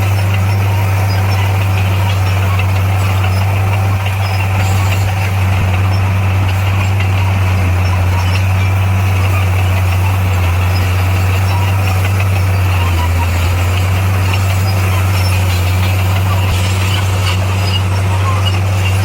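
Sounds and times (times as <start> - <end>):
heavy diesel engine drone: 0.0 - 19.0.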